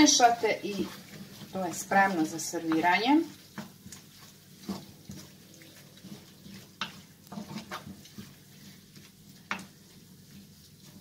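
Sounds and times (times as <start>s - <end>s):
faint sizzle: 0.0s - 11.0s
spatula scraping frying pan: 0.0s - 11.0s.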